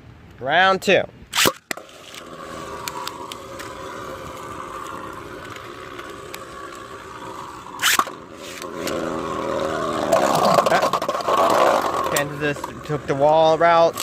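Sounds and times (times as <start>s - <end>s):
spinning tops clashing: 1.4s - 13.0s
spinning tops whirring: 1.4s - 14.0s.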